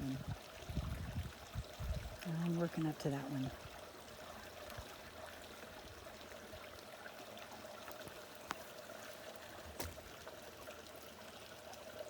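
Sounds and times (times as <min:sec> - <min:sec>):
brook babbling over rocks: 0:00.0 - 0:12.0.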